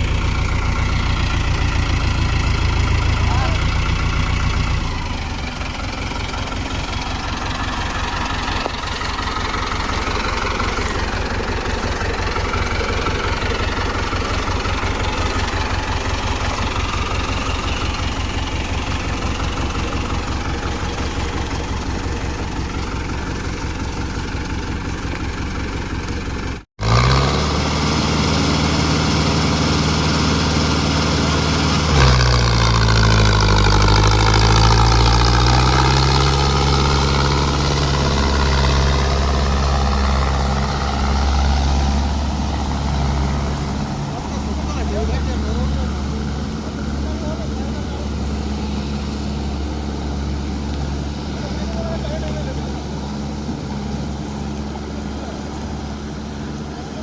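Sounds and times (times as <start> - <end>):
diesel tractor engine pulsing: 0.0 - 57.0
tractor engine running steadily: 0.0 - 57.0.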